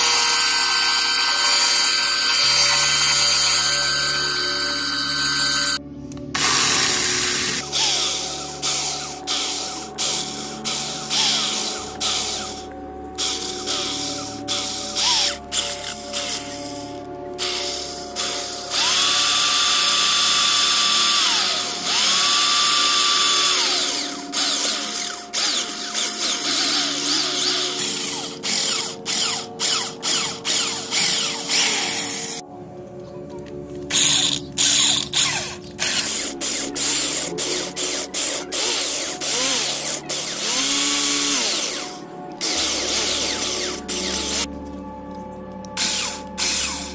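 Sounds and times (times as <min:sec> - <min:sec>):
electric drill grinding through steel: 0:00.0 - 0:32.4, 0:33.9 - 0:44.5, 0:45.8 - 0:46.9.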